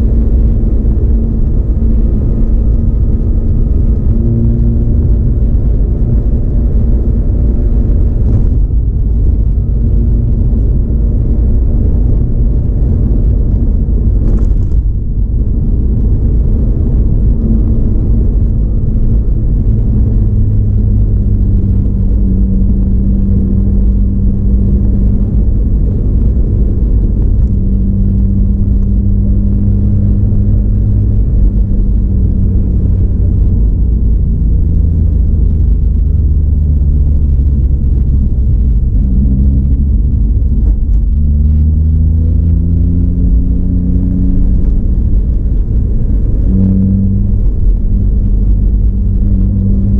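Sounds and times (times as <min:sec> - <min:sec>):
road noise: 0:00.0 - 0:49.9
rotary engine rumble: 0:00.0 - 0:49.9.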